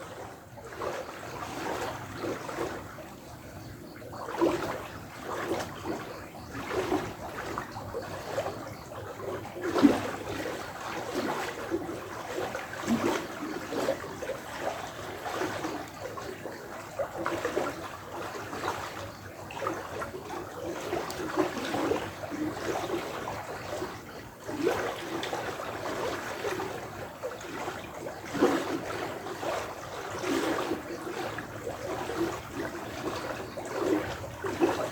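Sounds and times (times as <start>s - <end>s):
running water gurgling and splashing: 0.0s - 34.9s.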